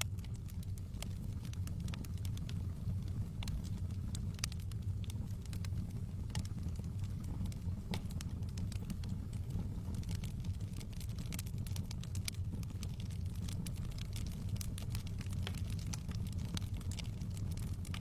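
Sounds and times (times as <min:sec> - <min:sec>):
fire flames rumbling: 0:00.0 - 0:18.0
wood fire crackling and popping: 0:00.0 - 0:18.0.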